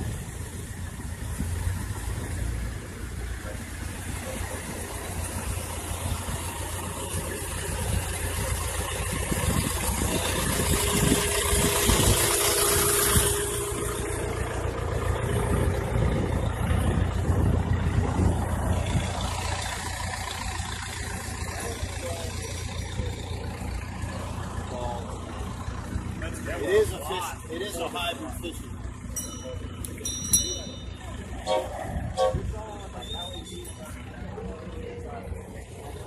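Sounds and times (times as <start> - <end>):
car engines idling: 0.0 - 36.0.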